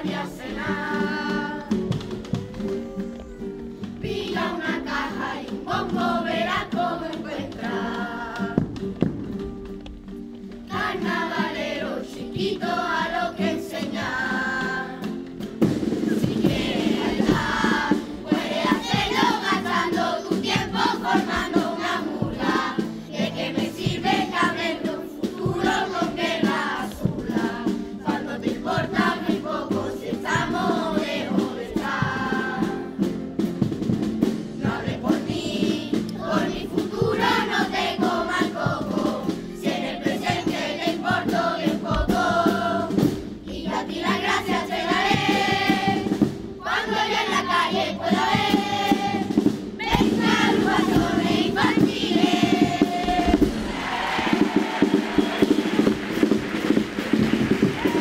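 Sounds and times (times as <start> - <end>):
children's chorus singing: 0.0 - 9.0, 10.7 - 58.0
guitar accompaniment: 0.0 - 58.0.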